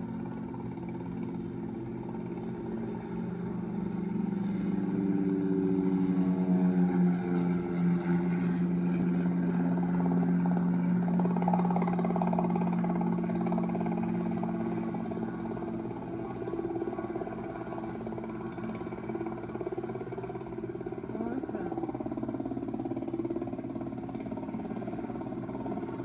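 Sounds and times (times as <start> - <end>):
helicopter hovering: 0.0 - 26.0.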